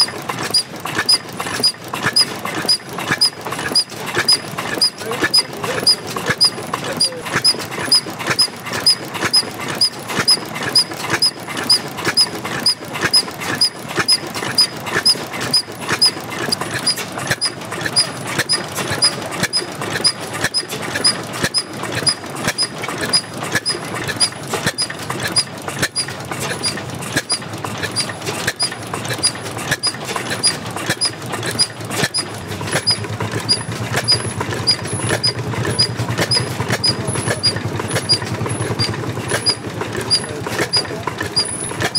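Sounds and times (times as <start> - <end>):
old stationary engine running: 0.0 - 41.9.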